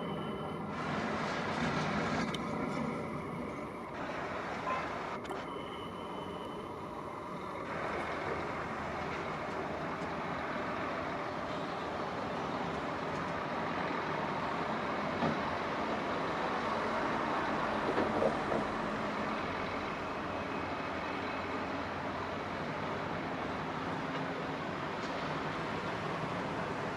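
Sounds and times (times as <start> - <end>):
train rolling past: 0.0 - 26.9.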